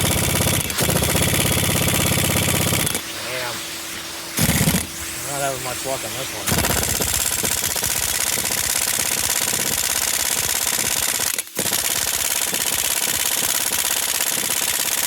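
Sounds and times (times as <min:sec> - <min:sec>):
impact wrench hammering: 0:00.0 - 0:03.0, 0:04.4 - 0:05.0, 0:06.5 - 0:15.0.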